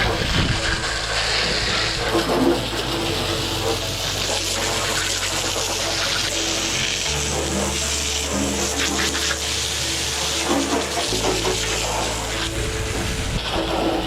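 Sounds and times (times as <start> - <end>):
music with held bass notes: 0.0 - 14.0
water spraying: 0.0 - 14.0.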